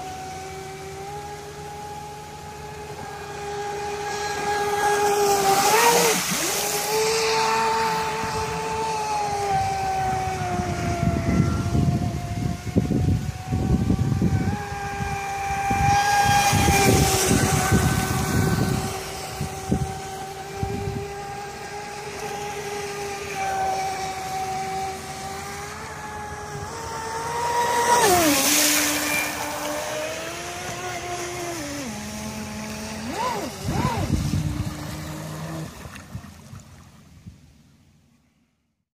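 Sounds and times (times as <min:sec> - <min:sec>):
electric boat motor whining: 0:00.0 - 0:37.2
boat rushing past: 0:00.0 - 0:38.0
wind buffeting microphone: 0:04.2 - 0:23.2, 0:23.8 - 0:36.6.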